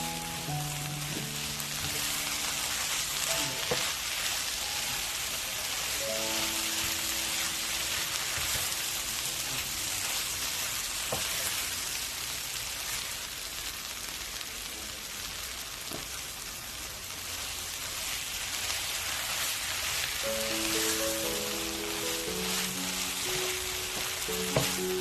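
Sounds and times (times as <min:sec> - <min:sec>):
potatoes sizzling in oil: 0:00.0 - 0:25.0.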